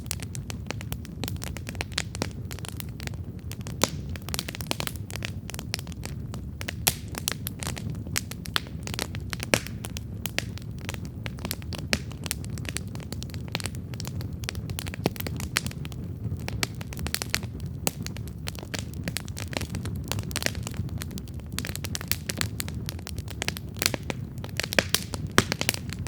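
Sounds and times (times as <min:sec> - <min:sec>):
campfire crackles and pops: 0:00.0 - 0:26.0.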